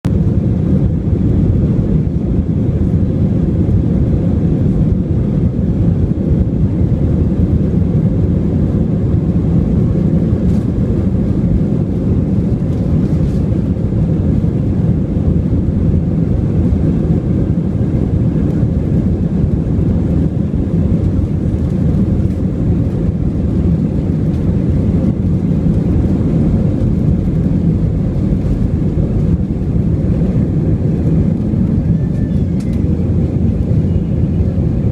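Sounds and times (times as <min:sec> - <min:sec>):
jet airliner cabin rumble: 0:00.0 - 0:34.9.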